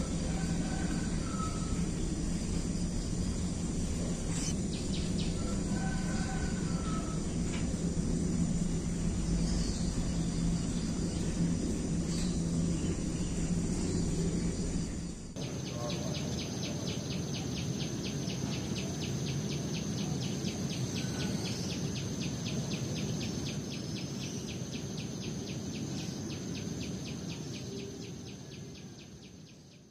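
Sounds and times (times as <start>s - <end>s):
low steady hum: 0.0s - 29.4s
insect chirping rapidly: 0.0s - 29.9s.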